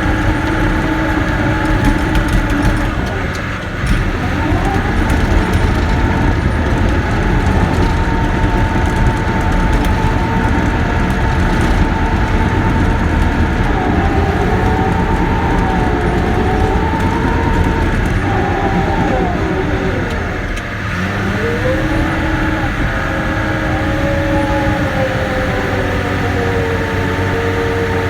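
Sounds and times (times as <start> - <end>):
diesel engine running under load: 0.0 - 28.0
steady whine: 0.0 - 28.0.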